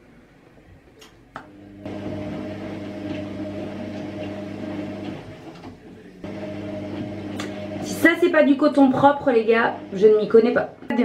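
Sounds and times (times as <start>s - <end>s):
electrical hum: 1.0s - 11.0s.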